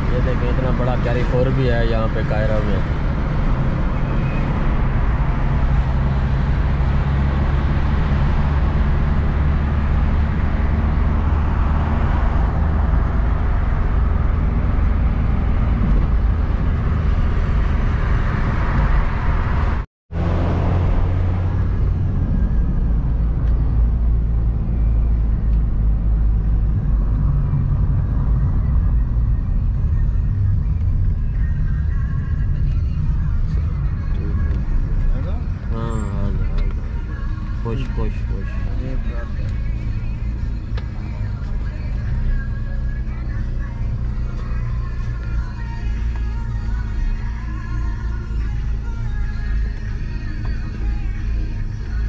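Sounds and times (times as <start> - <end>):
engine and tyre rumble: 0.0 - 52.0.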